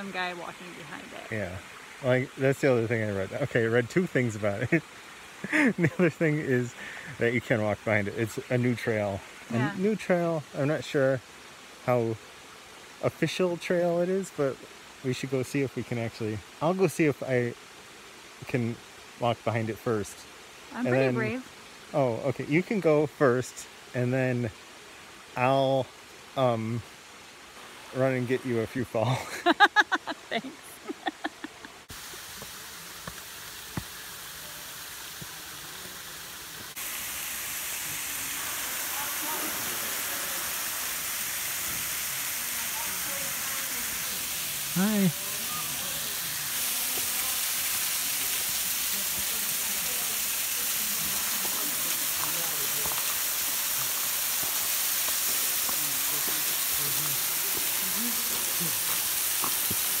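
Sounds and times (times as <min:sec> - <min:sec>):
waterfall rushing hiss: 0:00.0 - 1:00.0.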